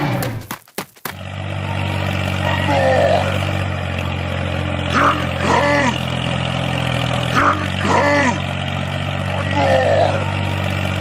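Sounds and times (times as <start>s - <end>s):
low engine drone: 1.1s - 11.0s.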